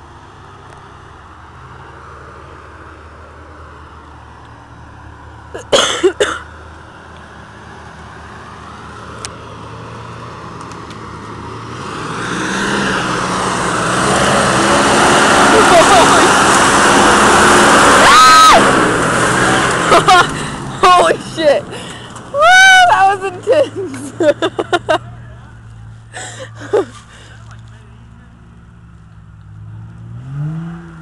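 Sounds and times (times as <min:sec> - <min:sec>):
truck engine approaching: 0:00.0 - 0:31.0.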